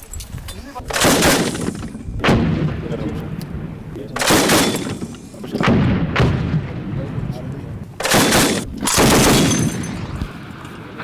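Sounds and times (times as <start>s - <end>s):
loud gunshots with echo: 0.9s - 10.6s.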